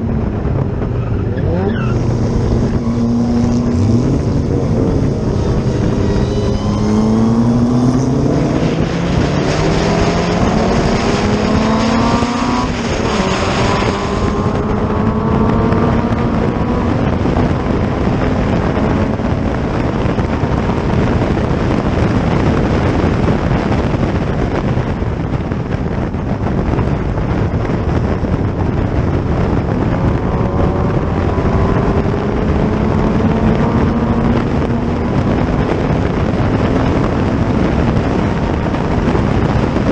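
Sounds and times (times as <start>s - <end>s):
racing car engine accelerating: 0.0s - 24.2s, 27.1s - 39.9s
wind rush: 0.0s - 39.9s.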